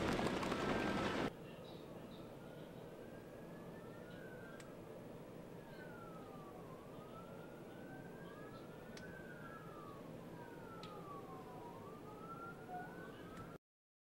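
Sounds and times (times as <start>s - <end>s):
emergency sirens wailing: 0.0s - 1.3s, 1.9s - 13.6s
steady background noise: 0.0s - 13.6s.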